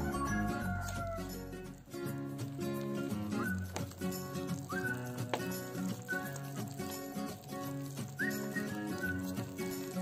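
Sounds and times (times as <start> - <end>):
instrumental music with held notes: 0.0 - 10.0.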